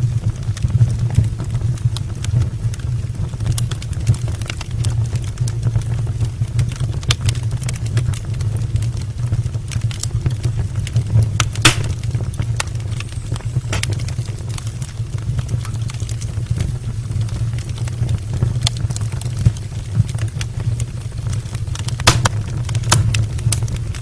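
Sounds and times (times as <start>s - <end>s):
fire crackles and pops: 0.0s - 24.0s
fire rumbling: 0.0s - 24.0s.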